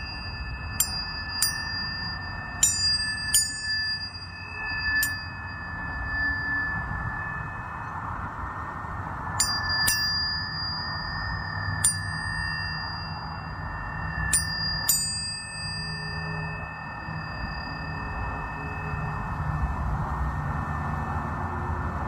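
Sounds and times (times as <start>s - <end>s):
tuning forks struck and ringing: 0.0s - 22.0s.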